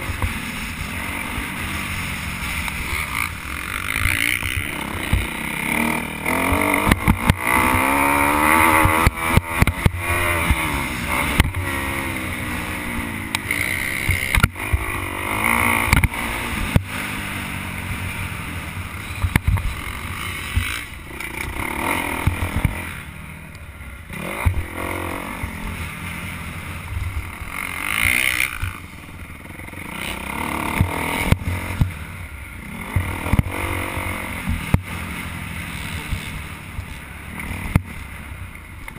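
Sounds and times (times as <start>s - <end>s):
dirt bike engine revving: 0.0s - 38.6s.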